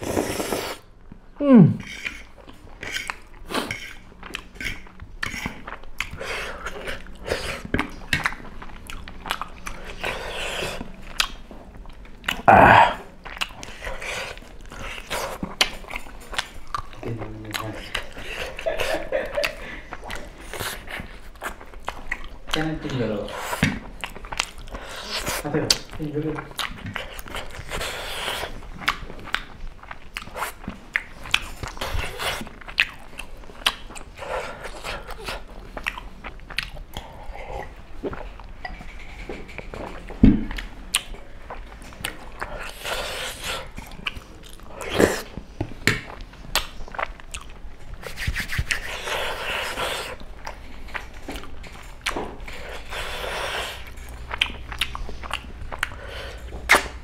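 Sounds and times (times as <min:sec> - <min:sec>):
man chewing food: 0:00.0 - 0:57.0.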